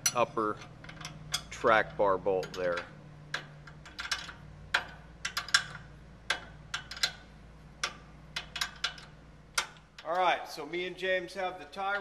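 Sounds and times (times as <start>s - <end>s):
wrenches clicking on metal: 0.0s - 10.3s
steady low hum: 0.0s - 12.0s.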